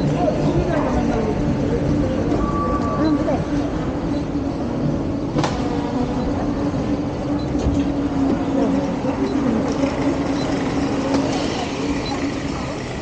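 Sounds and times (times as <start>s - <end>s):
faint voices murmuring: 0.0s - 13.0s
train humming at platform: 0.0s - 13.0s.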